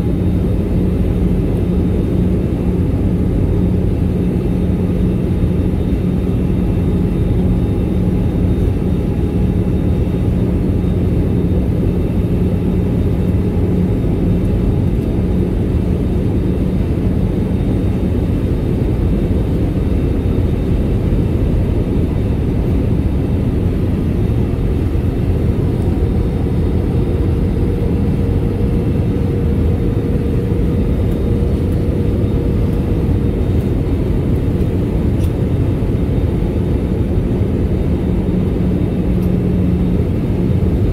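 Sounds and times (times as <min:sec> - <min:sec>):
airplane cabin roar: 0:00.0 - 0:40.9
low hum: 0:00.0 - 0:40.9.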